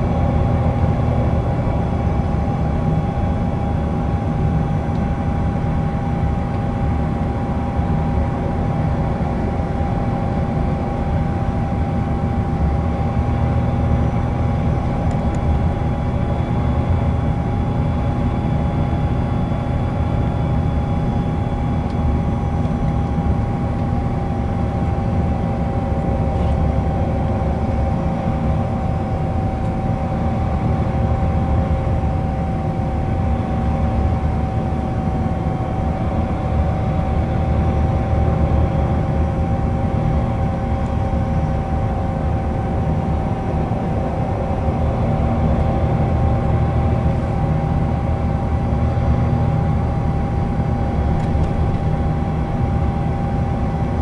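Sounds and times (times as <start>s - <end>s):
bus engine and road rumble: 0.0s - 54.0s
steady whine: 0.0s - 54.0s.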